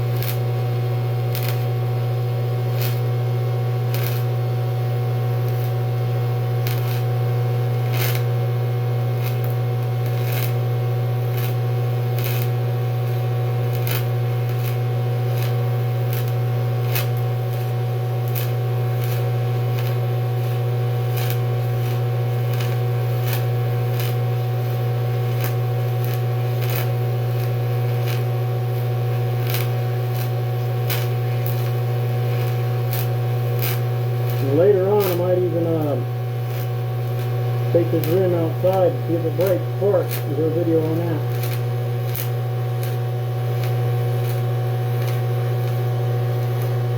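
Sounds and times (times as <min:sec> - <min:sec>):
welding machine hum: 0:00.0 - 0:46.9
welding ticks and crackles: 0:00.0 - 0:46.9.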